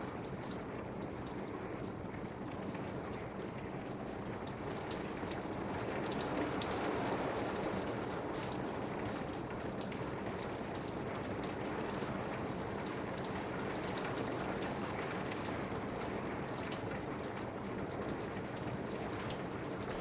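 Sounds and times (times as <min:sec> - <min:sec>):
raindrops ticking: 0:00.0 - 0:20.0
torrential rain hissing: 0:00.0 - 0:20.0.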